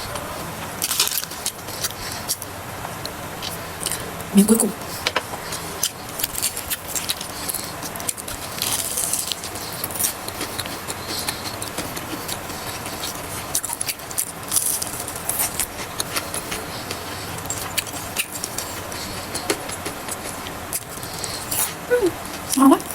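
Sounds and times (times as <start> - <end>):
chewing fried food: 0.0 - 22.9.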